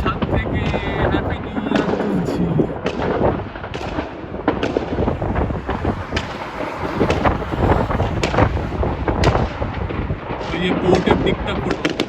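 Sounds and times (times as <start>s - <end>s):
low rumble: 0.0s - 10.5s
fireworks bangs and crackles: 0.0s - 12.0s
wind buffeting microphone: 0.0s - 12.0s.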